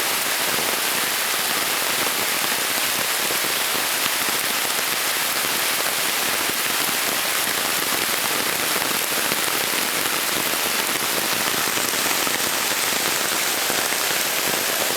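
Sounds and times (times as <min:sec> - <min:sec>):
heavy rain on foliage: 0:00.0 - 0:14.9.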